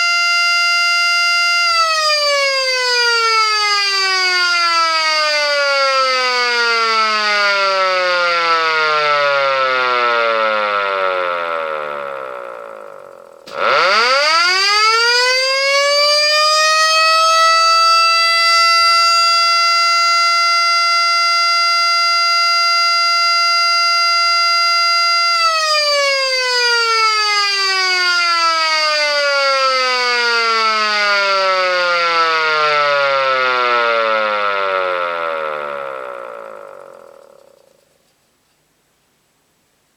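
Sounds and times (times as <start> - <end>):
siren winding up and down: 0.0 - 37.9.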